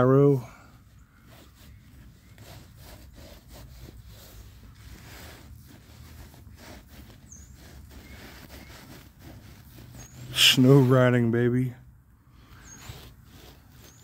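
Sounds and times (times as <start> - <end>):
fingertip scraping snow: 0.0 - 11.6, 12.4 - 14.0.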